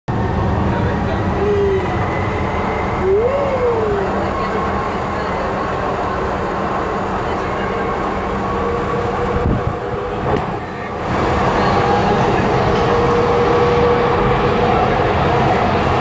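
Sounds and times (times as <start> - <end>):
train rumbling: 0.1 - 16.0.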